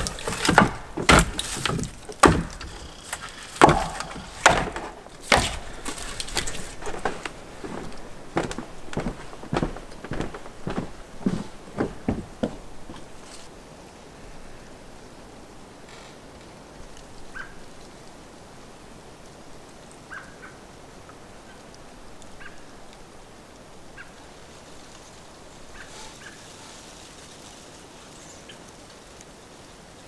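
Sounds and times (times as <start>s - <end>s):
outdoor hiss: 0.0s - 30.0s.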